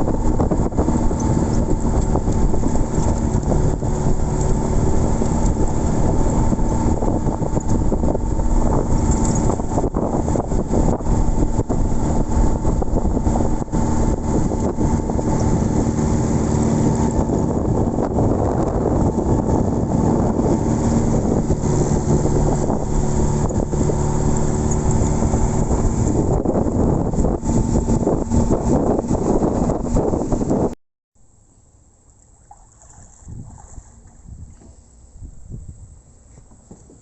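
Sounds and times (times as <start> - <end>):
vehicle engine running: 0.0 - 30.8
wind on microphone: 0.0 - 30.8, 32.5 - 37.0.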